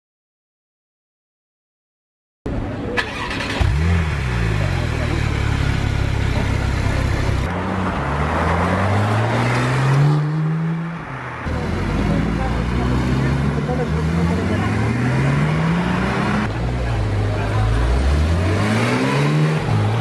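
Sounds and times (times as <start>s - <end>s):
car engine starting and revving: 3.0s - 20.0s.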